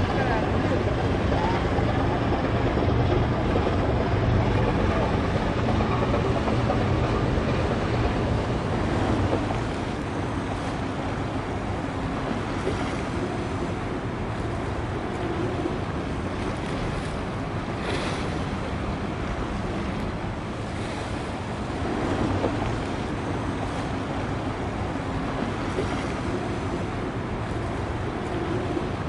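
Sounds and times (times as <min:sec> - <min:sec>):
rushing water: 0:00.0 - 0:29.0
rushing wind: 0:00.0 - 0:29.0.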